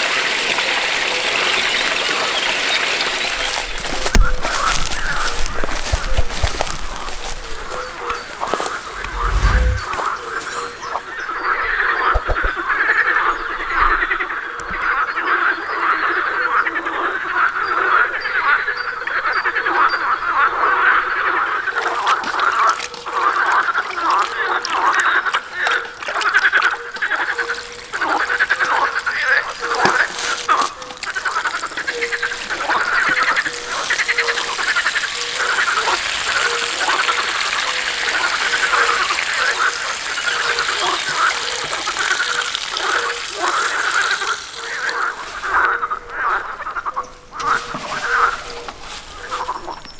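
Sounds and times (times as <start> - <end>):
frogs croaking: 0.0 - 49.9.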